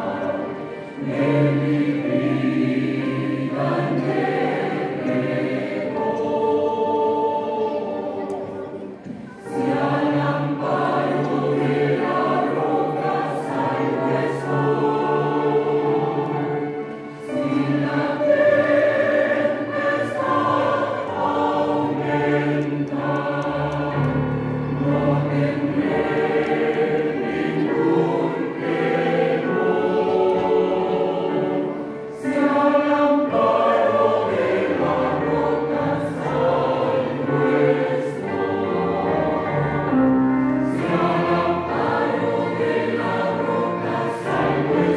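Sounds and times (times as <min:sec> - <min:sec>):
choir singing a hymn: 0:00.0 - 0:44.9.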